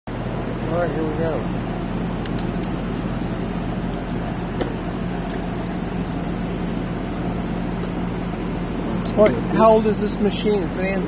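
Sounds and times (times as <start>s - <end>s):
key-duplicating machine motor hum: 0.1s - 11.0s.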